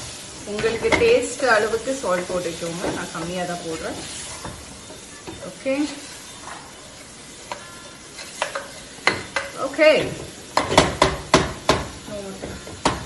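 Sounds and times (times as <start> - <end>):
soft sizzle: 0.0 - 13.0.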